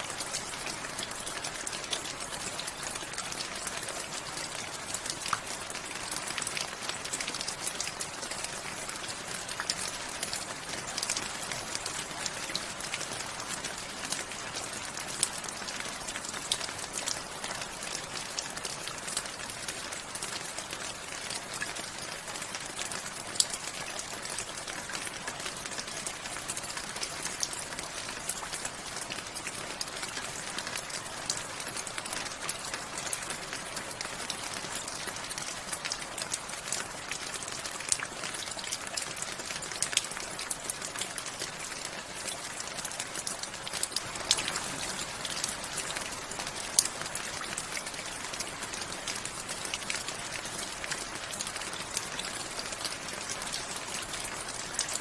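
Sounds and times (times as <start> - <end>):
raindrops ticking: 0.0 - 55.0
steady rain falling: 0.0 - 55.0.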